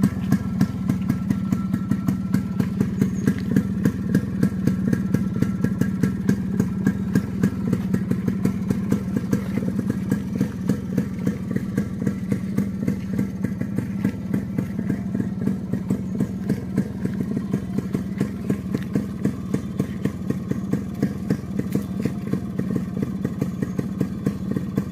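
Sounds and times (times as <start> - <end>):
two-stroke engine idling: 0.0 - 24.9.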